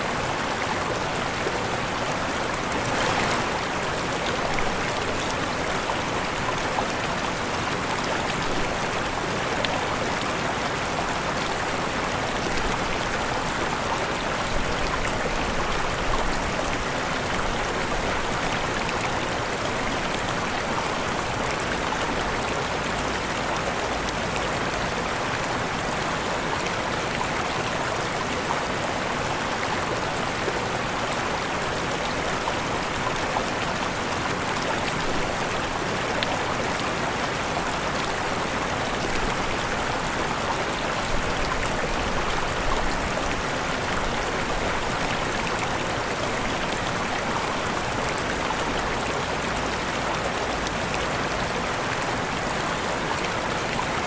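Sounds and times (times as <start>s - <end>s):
waterfall rushing: 0.0s - 19.6s, 26.6s - 54.0s.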